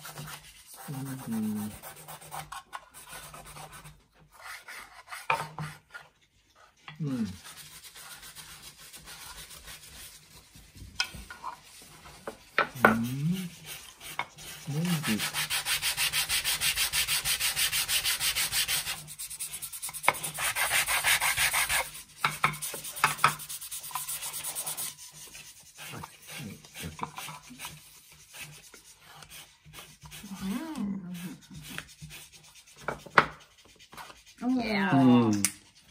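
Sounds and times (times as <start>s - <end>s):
wood sanding on sandpaper: 0.0s - 10.8s, 11.4s - 35.9s.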